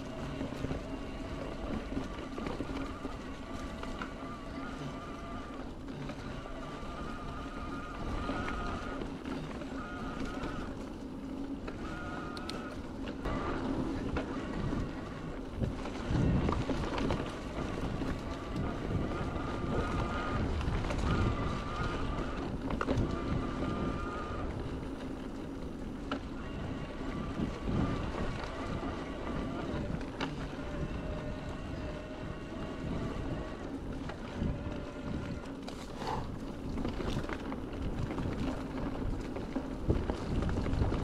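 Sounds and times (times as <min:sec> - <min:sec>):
electric motor whine: 0:00.0 - 0:41.0
tyres rolling over earth and leaves: 0:00.0 - 0:41.0
wind buffeting microphone: 0:00.0 - 0:41.0.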